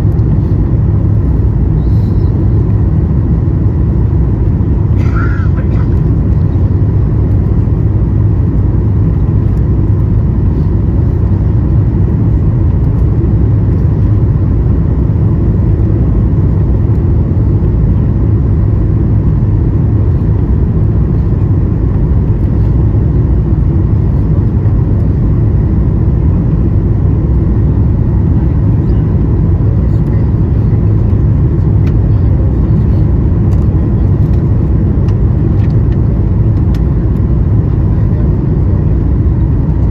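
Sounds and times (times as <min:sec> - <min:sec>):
aircraft cabin engine rumble: 0:00.0 - 0:39.9
faint steady hum: 0:00.0 - 0:39.9.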